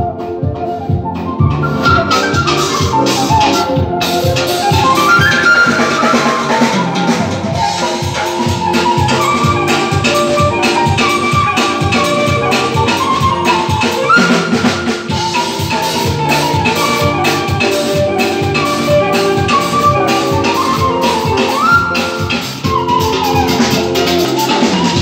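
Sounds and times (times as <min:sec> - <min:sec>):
steady drum beat: 0:00.0 - 0:25.0
wooden flute melody: 0:00.0 - 0:25.0.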